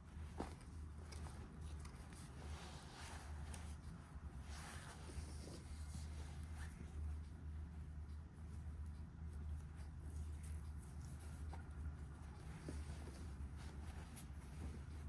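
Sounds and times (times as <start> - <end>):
soft rustling and handling: 0.0 - 15.0.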